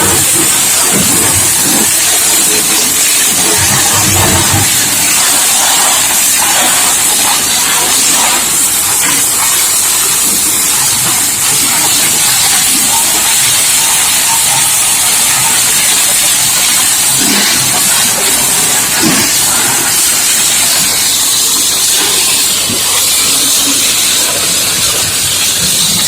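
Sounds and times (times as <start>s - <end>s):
water jet spraying: 0.0s - 26.0s.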